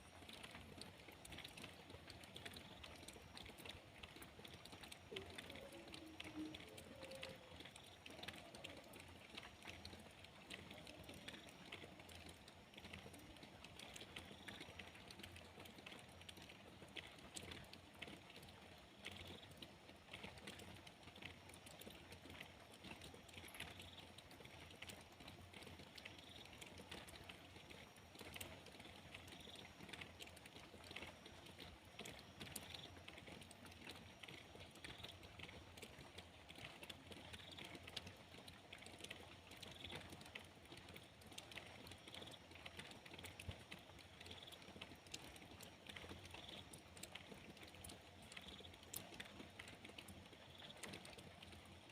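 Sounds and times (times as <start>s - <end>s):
faint rain pattering: 0.0s - 51.9s.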